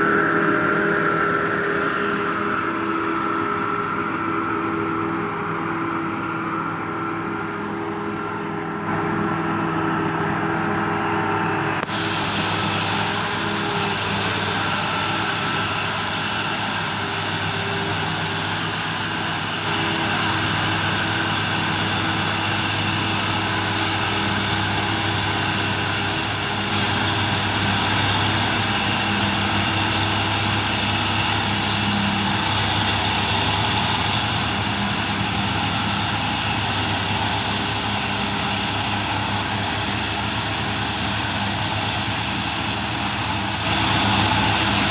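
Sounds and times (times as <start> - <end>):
forage harvester engine hum: 0.0 - 44.9.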